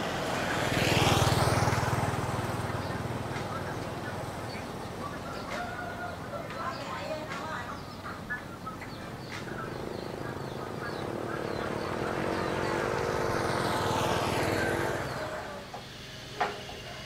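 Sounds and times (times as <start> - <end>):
small motorcycle passing: 0.0 - 17.0
birds chirping faintly: 0.2 - 15.9.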